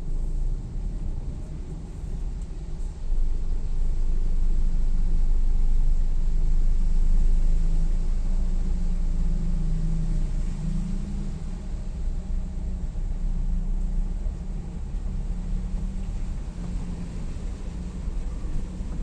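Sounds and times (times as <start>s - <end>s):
road and wind noise: 0.0s - 19.0s
vehicle engine drone: 0.0s - 19.0s.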